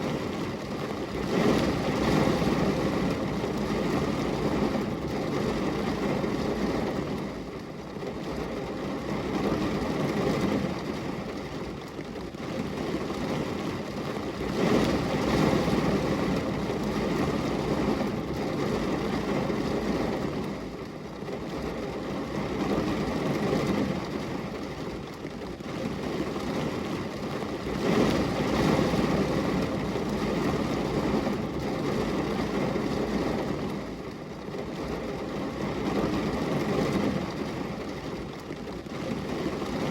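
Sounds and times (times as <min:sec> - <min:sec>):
rain on a glass window: 0:00.0 - 0:39.9.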